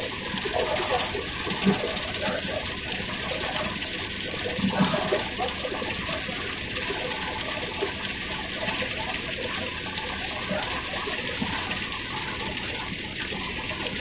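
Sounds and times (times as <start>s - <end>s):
cloth-shredding machine rattling: 0.0s - 14.0s.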